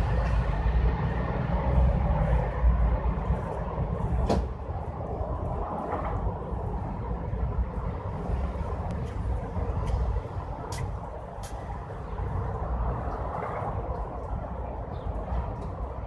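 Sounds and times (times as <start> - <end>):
low rumbling noise: 0.0 - 16.0.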